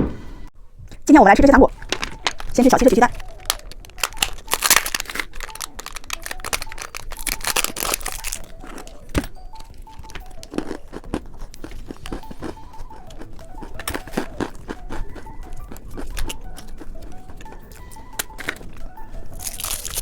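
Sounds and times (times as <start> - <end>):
plastic wrapper crinkling: 1.7 - 20.0.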